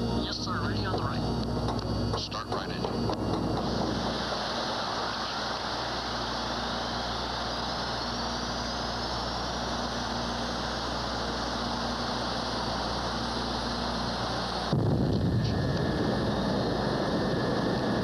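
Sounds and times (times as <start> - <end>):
high whine climbing: 0.0 - 18.0
jet engine spooling up: 0.0 - 18.0.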